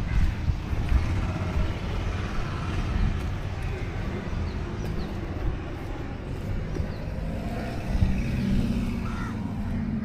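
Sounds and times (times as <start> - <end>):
low traffic rumble: 0.0 - 10.0
vehicle engine passing: 0.0 - 10.0.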